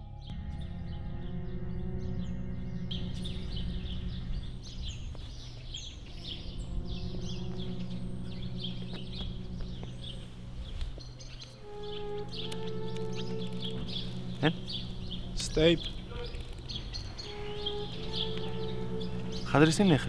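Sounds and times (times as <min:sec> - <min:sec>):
background music drone: 0:00.0 - 0:20.0
small birds chirping: 0:00.5 - 0:20.0.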